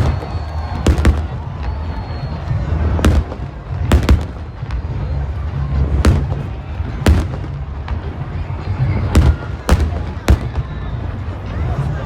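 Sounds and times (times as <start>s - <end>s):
fireworks bursting with bangs: 0.0s - 11.3s
continuous low rumble: 0.0s - 12.0s.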